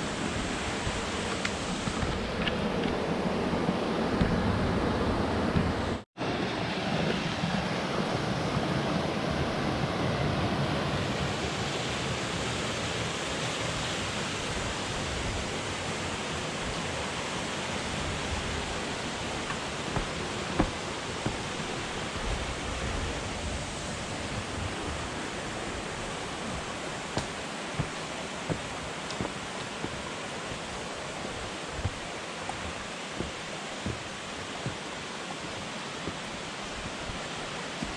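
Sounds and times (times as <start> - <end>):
mountain stream rushing: 0.0 - 37.9.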